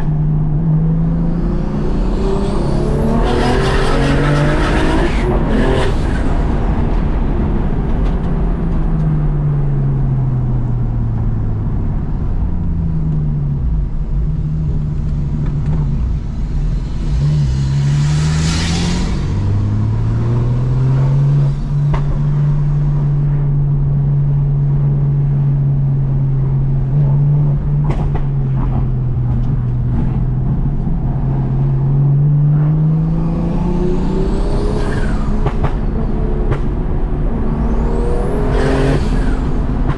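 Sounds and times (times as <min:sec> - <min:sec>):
car engine revving: 0:00.0 - 0:09.0, 0:11.8 - 0:39.9.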